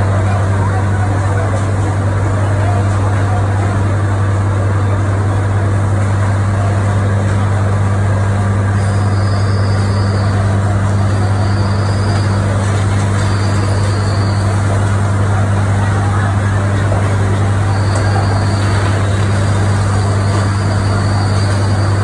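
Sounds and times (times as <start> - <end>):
fire truck engines running: 0.0 - 22.0.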